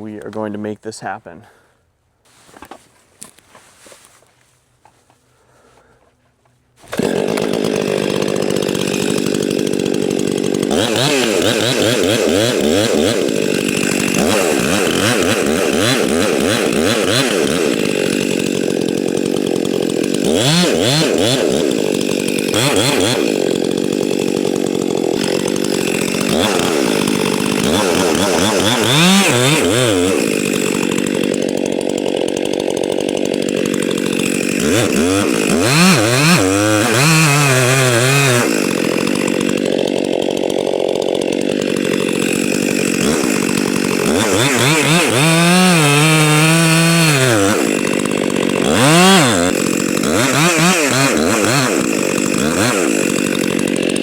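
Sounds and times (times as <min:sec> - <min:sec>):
chainsaw cutting at high revs: 0:06.8 - 0:54.0.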